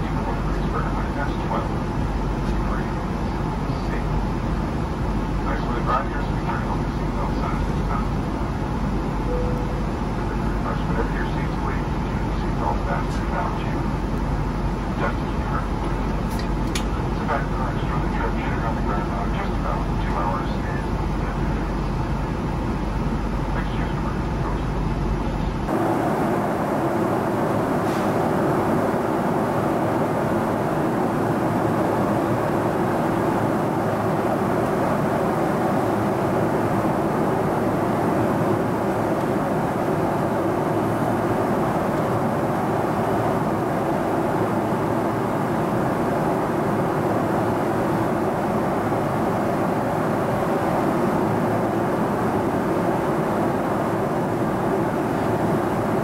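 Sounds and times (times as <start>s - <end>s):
airplane cabin airflow rush: 0.0s - 56.0s
jet engine hum: 0.0s - 56.0s.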